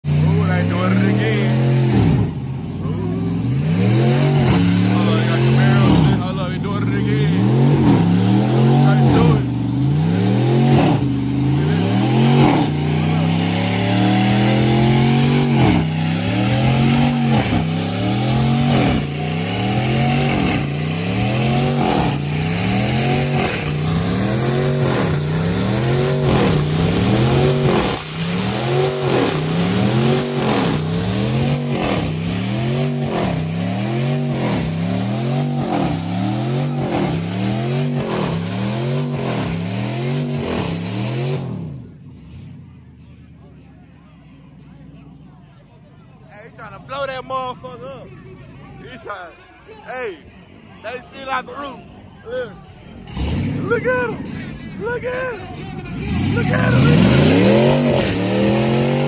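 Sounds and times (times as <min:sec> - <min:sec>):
car engine revving hard: 0:00.0 - 0:42.8, 0:52.8 - 0:59.0.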